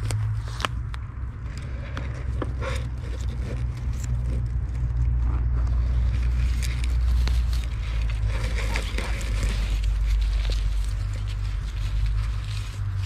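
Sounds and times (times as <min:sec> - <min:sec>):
dry pine needles crackling: 0:00.0 - 0:13.0.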